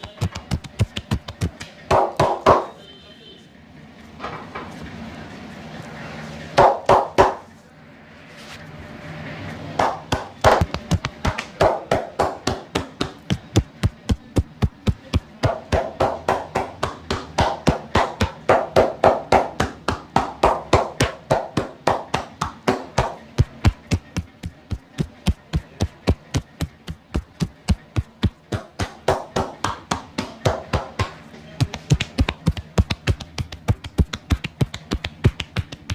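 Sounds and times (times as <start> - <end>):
hands tapping and chopping on body: 0.0 - 2.7, 9.8 - 35.9.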